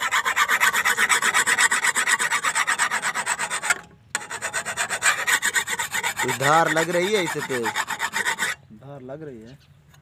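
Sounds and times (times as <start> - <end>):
file rasping on steel blade: 0.0 - 8.6.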